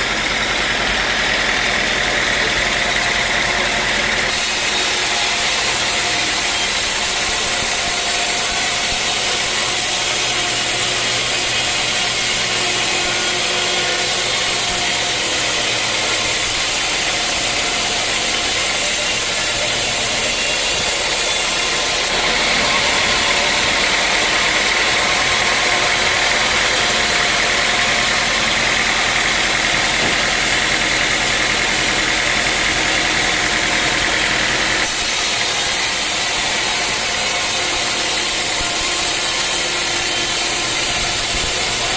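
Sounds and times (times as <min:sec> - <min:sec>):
sawmill machinery running: 0:00.0 - 0:41.9.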